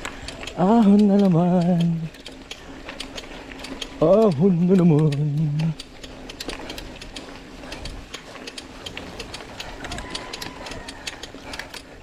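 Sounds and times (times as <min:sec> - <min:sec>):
bike drivetrain clicking and rattling: 0:00.0 - 0:12.0
low rumble of tyres: 0:00.0 - 0:12.0.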